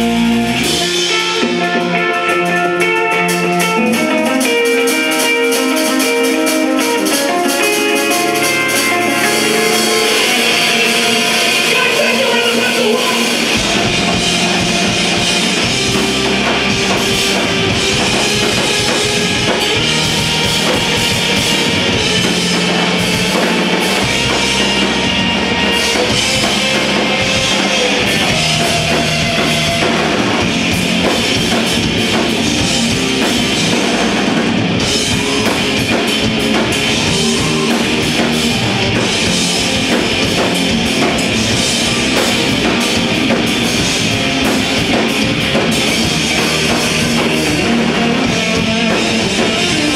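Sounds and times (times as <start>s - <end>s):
bass guitar: 0.0s - 49.9s
electric guitars: 0.0s - 49.9s
rapid drumming: 0.0s - 49.9s.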